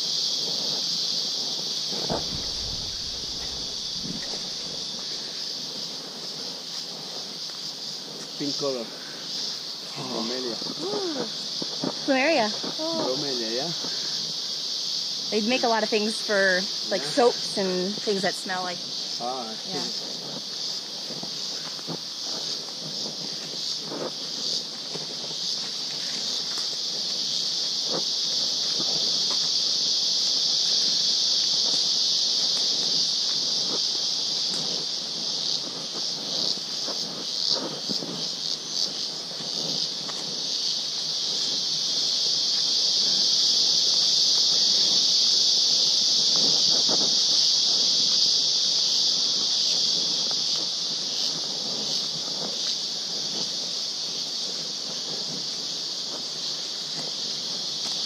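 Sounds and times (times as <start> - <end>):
high-pitched insect buzzing: 0.0 - 58.0.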